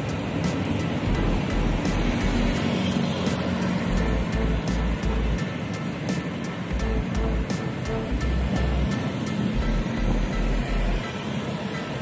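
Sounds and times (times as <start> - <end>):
city traffic: 0.0 - 12.0
electric train passing: 0.0 - 12.0.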